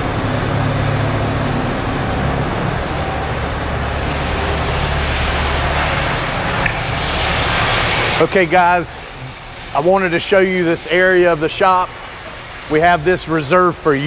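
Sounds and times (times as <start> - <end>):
factory machinery roar: 0.0 - 14.0.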